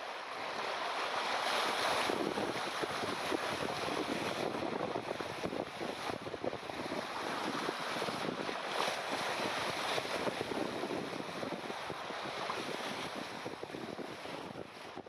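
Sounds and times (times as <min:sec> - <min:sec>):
sea water splashing against bow: 0:00.0 - 0:15.0
wind buffeting microphone: 0:00.5 - 0:15.0.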